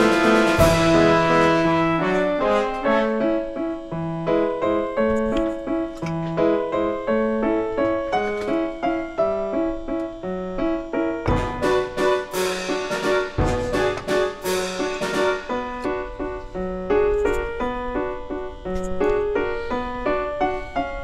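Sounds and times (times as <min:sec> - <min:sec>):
bouncy keyboard melody: 0:00.0 - 0:21.0.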